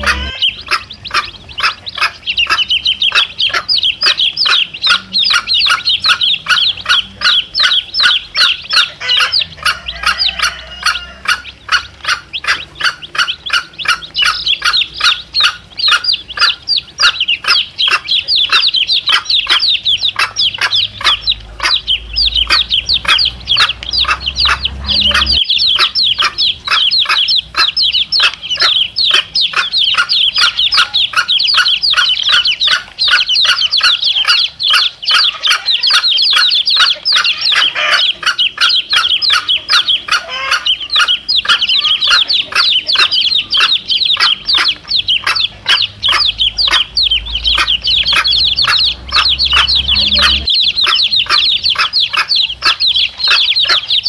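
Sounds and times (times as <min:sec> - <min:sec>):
chicks peeping: 0:00.0 - 0:54.0
hen clucking: 0:00.0 - 0:54.0.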